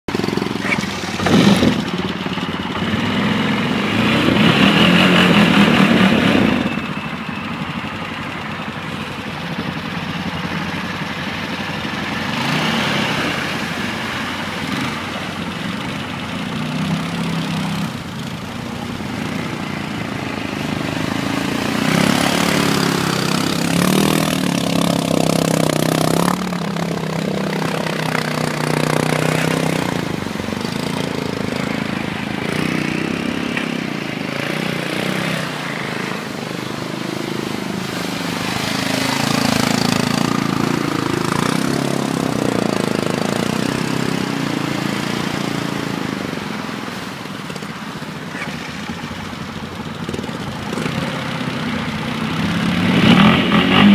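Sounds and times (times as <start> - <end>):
quad bike engines revving: 0.0 - 53.9.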